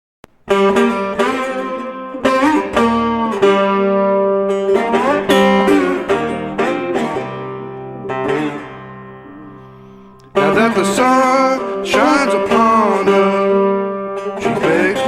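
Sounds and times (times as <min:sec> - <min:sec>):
blues guitar notes: 0:00.2 - 0:15.0.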